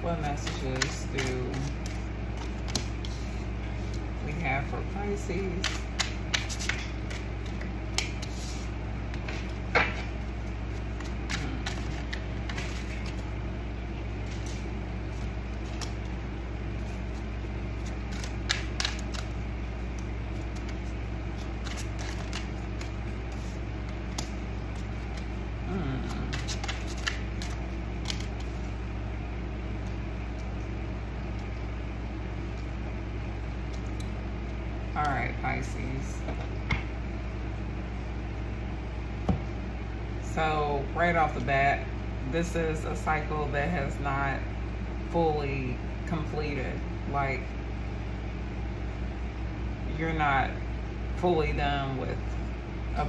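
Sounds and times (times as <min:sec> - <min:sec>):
low hum: 0:00.0 - 0:53.0.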